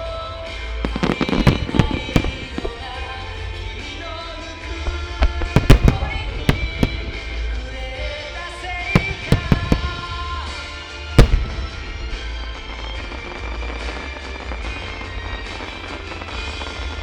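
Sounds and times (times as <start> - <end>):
fireworks shells bursting: 0.0 - 17.0
music with held tones: 0.0 - 17.0.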